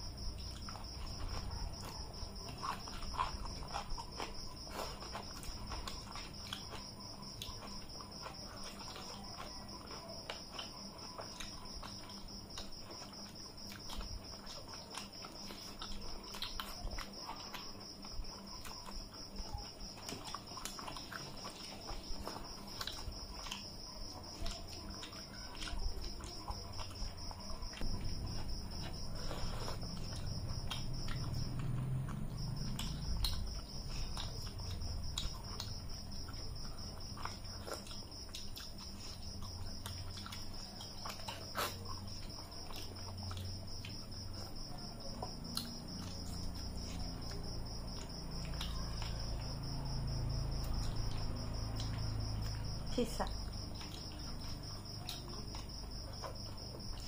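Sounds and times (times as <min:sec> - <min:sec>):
cricket trilling: 0:00.0 - 0:57.0
mouth clicks and chewing: 0:00.0 - 0:57.0.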